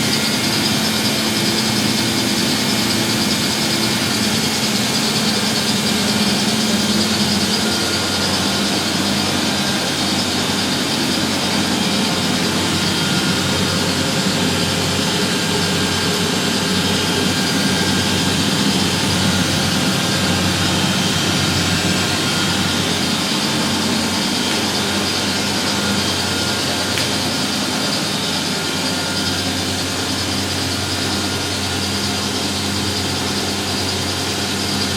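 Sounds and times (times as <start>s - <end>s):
washing machines spinning: 0.0s - 34.9s.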